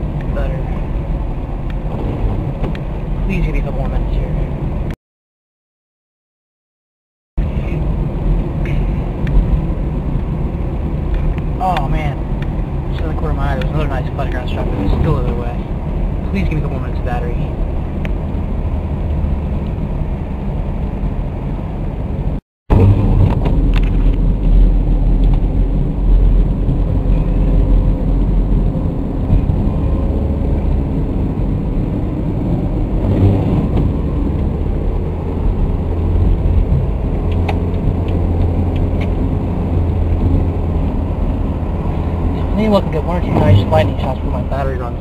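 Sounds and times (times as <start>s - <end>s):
car cabin road rumble: 0.0s - 5.0s, 7.4s - 45.0s.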